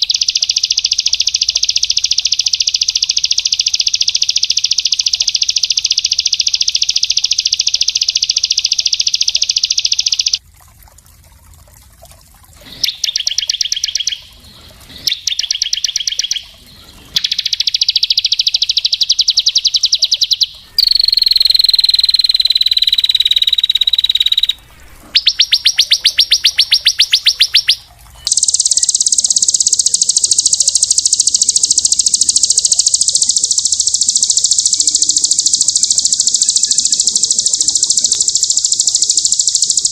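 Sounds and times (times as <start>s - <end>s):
buzzy continuous bird trill: 0.0s - 10.4s, 12.6s - 39.9s
songbird trills: 0.0s - 10.4s, 12.7s - 39.9s.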